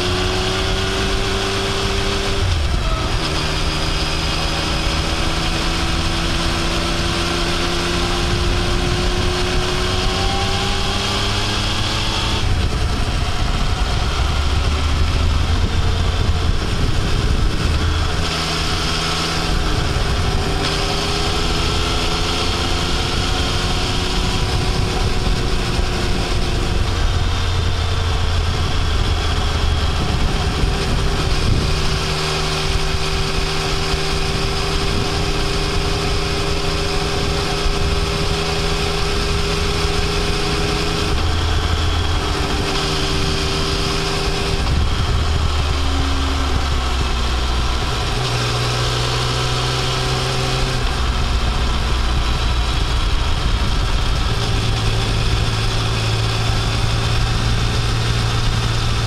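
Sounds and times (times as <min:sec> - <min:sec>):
motorcycle engine pulling uphill: 0:00.0 - 0:59.0
wind noise: 0:00.0 - 0:59.0.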